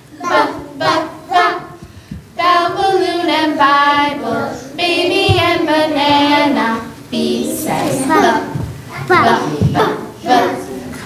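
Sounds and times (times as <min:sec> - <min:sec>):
young children singing: 0:00.0 - 0:11.0.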